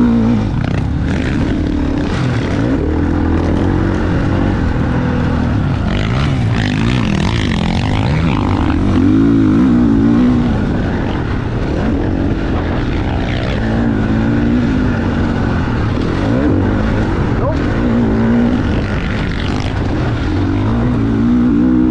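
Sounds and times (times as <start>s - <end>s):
motocross bike engine revving: 0.0s - 21.9s
wind on microphone: 0.0s - 21.9s.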